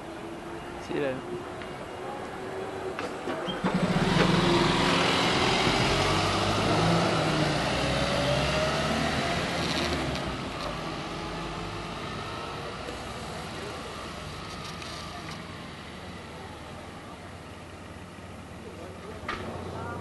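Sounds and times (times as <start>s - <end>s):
bus engine pulling away: 0.0s - 20.0s.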